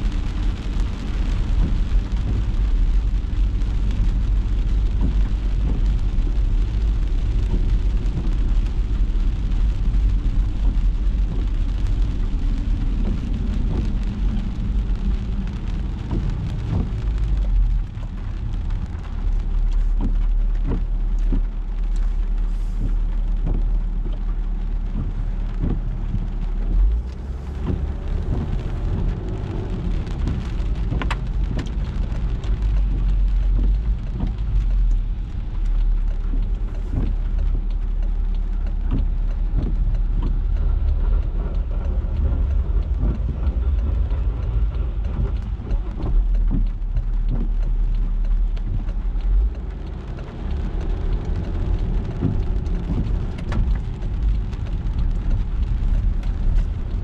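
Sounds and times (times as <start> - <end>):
engine and tyres on wet road: 0.0 - 57.0
raindrops ticking on car: 0.0 - 57.0.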